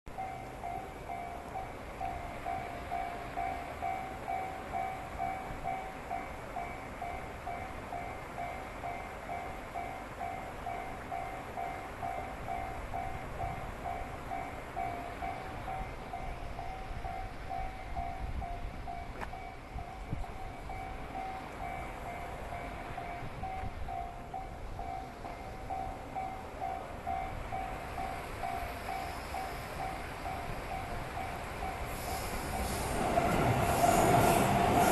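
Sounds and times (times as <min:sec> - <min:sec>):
level-crossing warning bell ringing: 0:00.1 - 0:34.9
train rumbling: 0:00.1 - 0:34.9.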